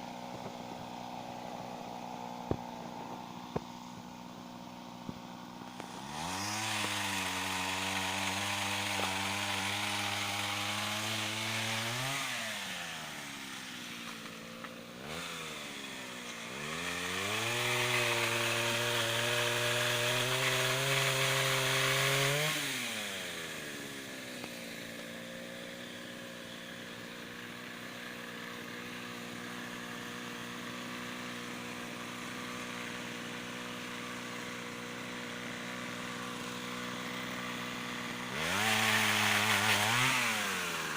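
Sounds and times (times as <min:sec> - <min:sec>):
brush-cutter engine revving: 0:00.0 - 0:40.9.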